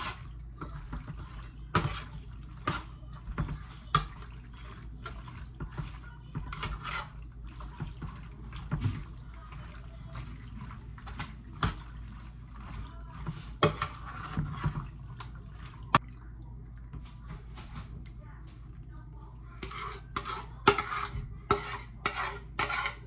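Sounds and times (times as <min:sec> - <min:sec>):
wet squelching of pasta: 0:00.0 - 0:23.0.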